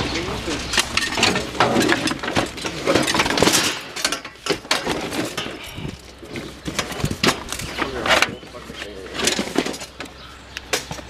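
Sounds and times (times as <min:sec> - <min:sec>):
junk clattering in metal dumpster: 0:00.0 - 0:10.1.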